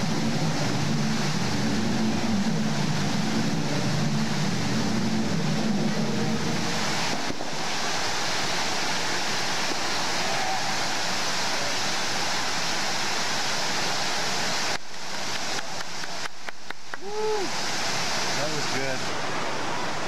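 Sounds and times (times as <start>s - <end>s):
fountain water rushing: 0.0s - 20.0s.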